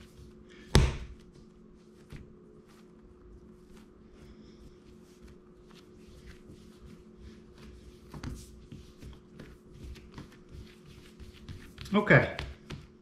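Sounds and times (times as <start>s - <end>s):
dough sliding and patting on counter: 0.0s - 13.0s.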